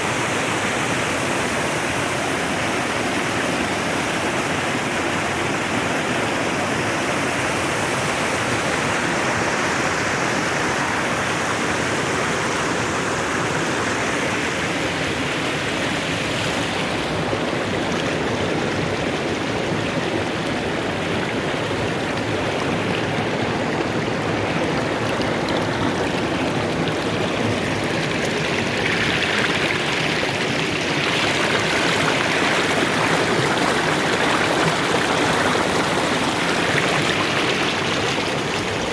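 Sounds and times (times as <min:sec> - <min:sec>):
river rushing over stones: 0:00.0 - 0:38.9.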